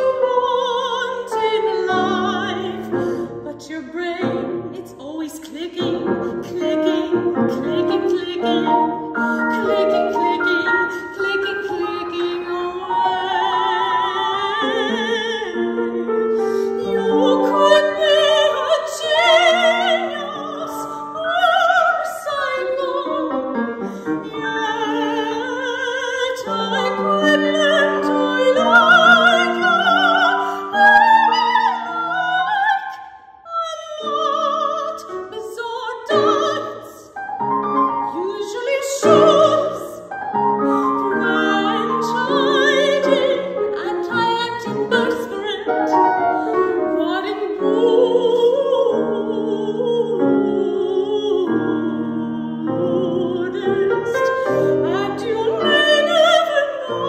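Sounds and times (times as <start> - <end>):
grand piano accompaniment: 0.0 - 57.0
soprano singing with vibrato: 0.0 - 57.0.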